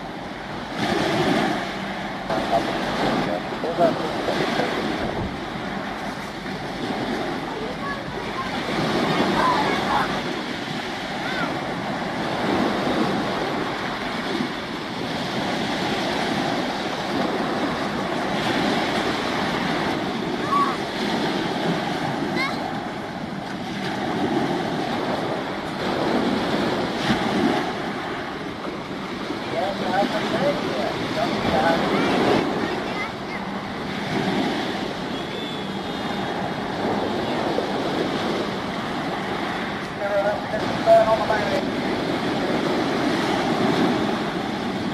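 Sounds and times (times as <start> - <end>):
choppy water washing: 0.0 - 44.9
wind on microphone: 0.0 - 44.9.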